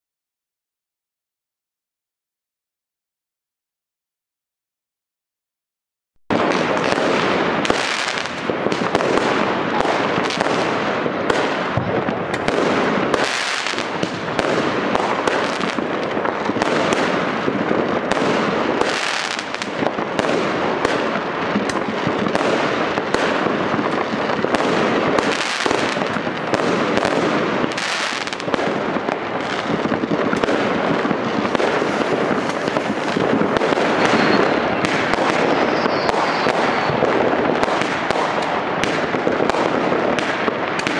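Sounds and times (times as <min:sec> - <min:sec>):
fireworks crackling and banging: 0:06.3 - 0:40.9.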